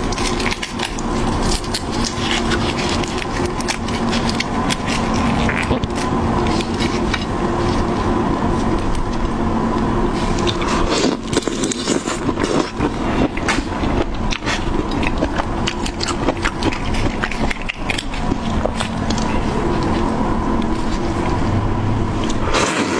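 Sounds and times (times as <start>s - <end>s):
chewing: 0.0s - 22.9s
low hum: 0.0s - 22.9s.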